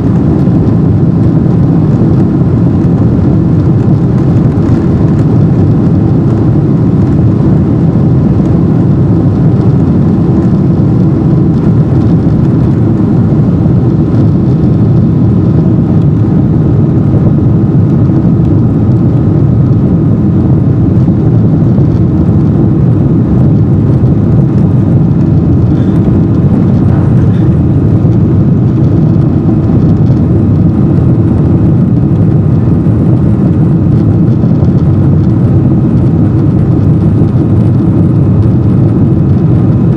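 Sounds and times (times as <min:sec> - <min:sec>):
faint engine whine: 0:00.0 - 0:39.9
jet engines deep rumble: 0:00.0 - 0:39.9.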